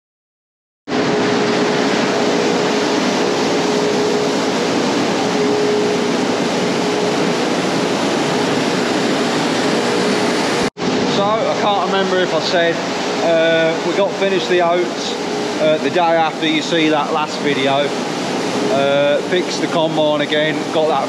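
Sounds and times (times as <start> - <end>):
conveyor rushing noise: 0.9 - 21.0
even hum: 0.9 - 21.0.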